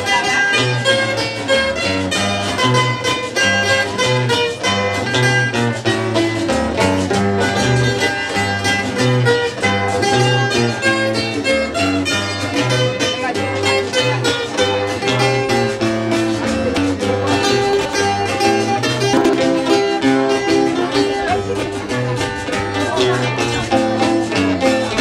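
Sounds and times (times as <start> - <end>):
guitars plucked and strummed: 0.0 - 25.0.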